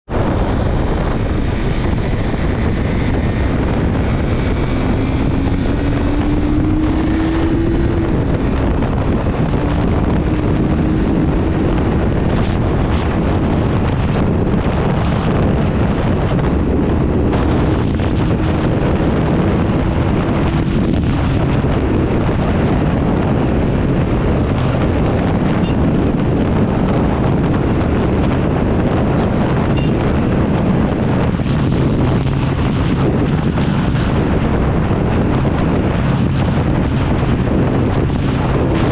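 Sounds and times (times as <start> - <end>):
wind noise on microphone: 0.0 - 38.9
motorcycle engine running: 0.2 - 38.9.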